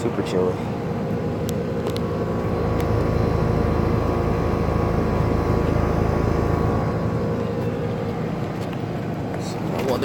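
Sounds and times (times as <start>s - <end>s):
compressor hum: 0.0s - 10.0s
condenser fan whoosh: 0.0s - 10.0s.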